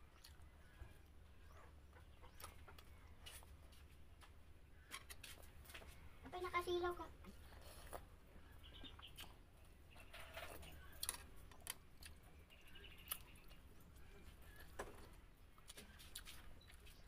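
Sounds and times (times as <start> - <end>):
quiet chewing: 0.0 - 6.2, 7.1 - 17.0.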